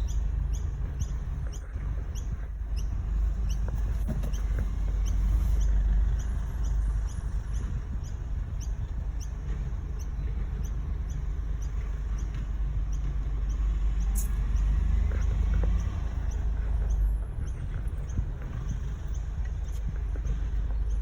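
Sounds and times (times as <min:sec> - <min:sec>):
diesel engine low rumble: 0:00.0 - 0:21.0.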